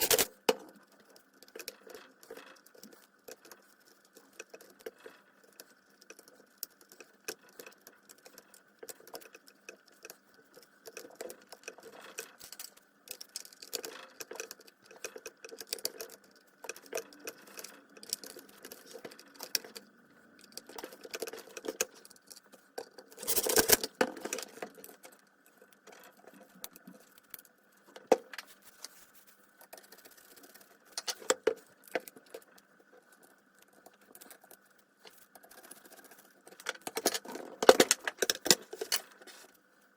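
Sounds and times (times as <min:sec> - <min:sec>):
metal parts and tools clicking: 0:00.0 - 0:29.0, 0:29.6 - 0:39.6.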